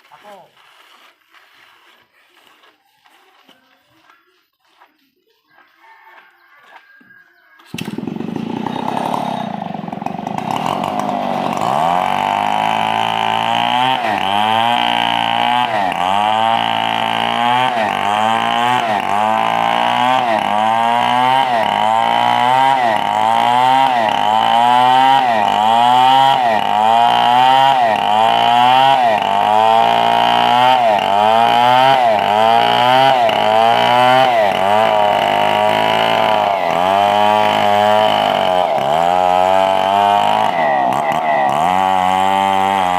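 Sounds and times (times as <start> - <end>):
power saw cutting log: 7.7 - 42.9.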